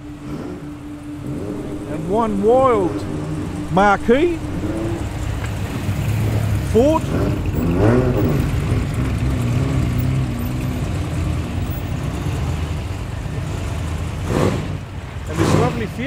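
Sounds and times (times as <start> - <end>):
car engine burble: 0.0 - 16.0.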